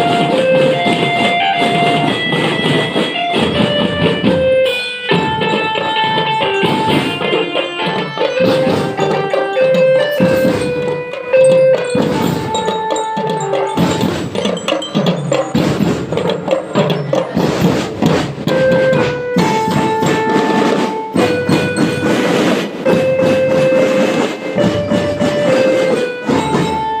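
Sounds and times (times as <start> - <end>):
bell-like mallet percussion: 0.0 - 27.0
marching drums: 0.0 - 27.0
melody of held notes: 0.0 - 27.0.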